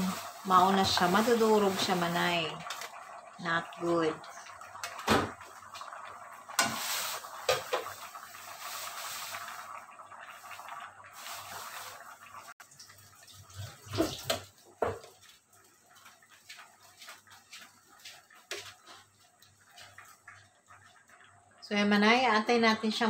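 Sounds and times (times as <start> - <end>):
ladle stirring sloshing vegetables: 0.0 - 3.2, 4.5 - 21.3.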